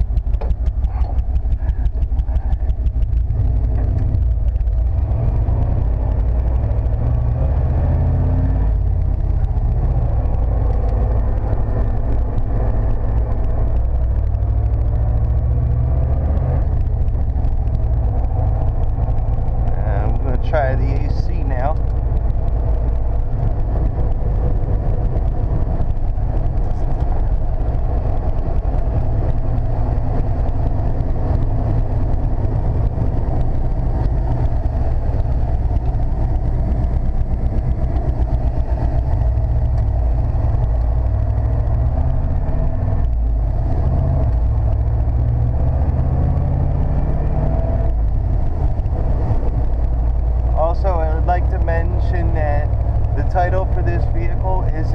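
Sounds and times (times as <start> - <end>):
pickup engine and road noise: 0.0 - 54.9.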